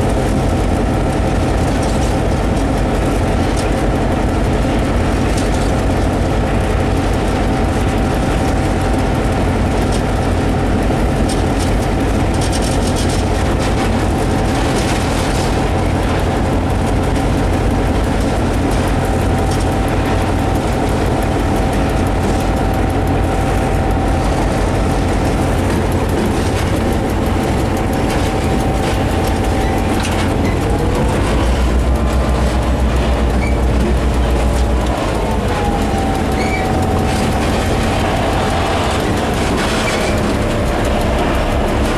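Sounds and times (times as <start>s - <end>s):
diesel locomotive engine rumble: 0.0s - 41.9s
engine whine: 0.0s - 41.9s
train wheels on rails: 0.0s - 41.9s.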